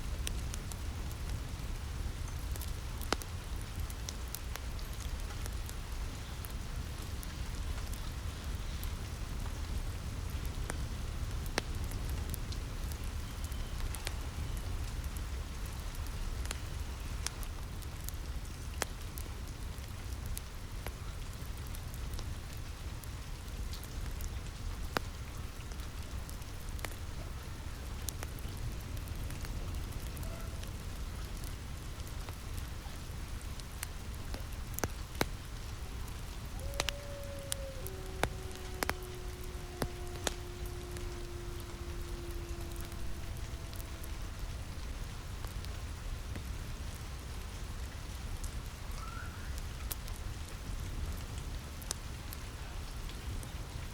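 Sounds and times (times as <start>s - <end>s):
wood fire crackling: 0.0s - 48.8s
rain on a roof: 0.0s - 53.9s.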